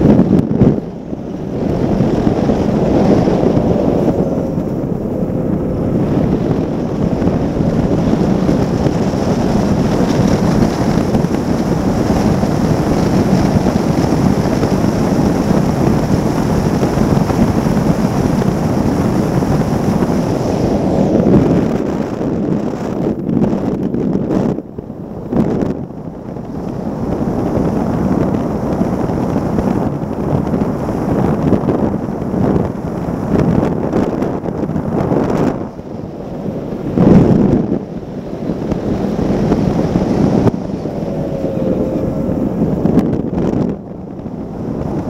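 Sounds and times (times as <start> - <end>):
outboard engine drone: 0.0 - 45.0
wind rushing on microphone: 0.0 - 45.0.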